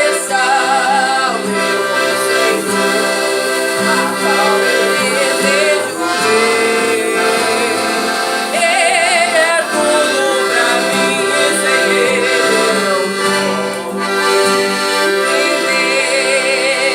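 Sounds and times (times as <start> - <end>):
accordion playing chords: 0.0 - 16.9
person singing with vibrato: 0.0 - 16.9.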